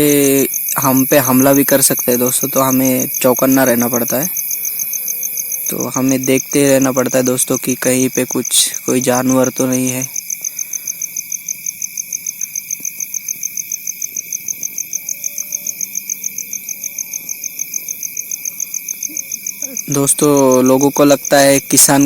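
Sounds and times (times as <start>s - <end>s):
crickets chirping: 0.0s - 22.0s
insect trill: 0.0s - 22.0s.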